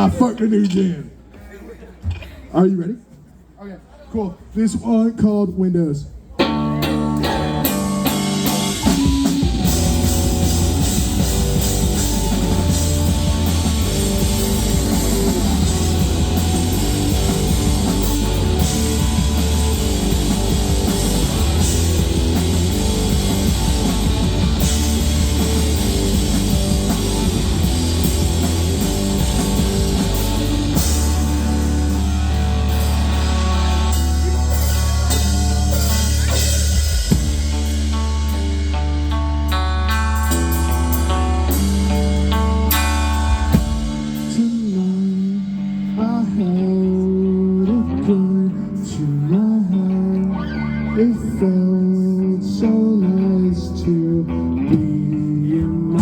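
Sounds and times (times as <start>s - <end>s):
live rock band playing: 6.2s - 56.0s.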